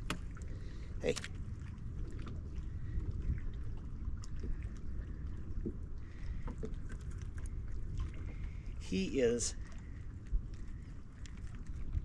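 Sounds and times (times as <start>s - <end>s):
water lapping against boat hull: 0.0s - 12.0s
wind rumble on microphone: 0.0s - 12.0s.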